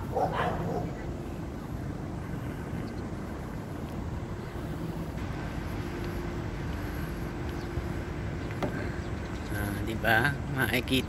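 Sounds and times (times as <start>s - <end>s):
faint steady hum: 0.0s - 11.0s
low rumble of vehicle noise: 0.0s - 11.0s.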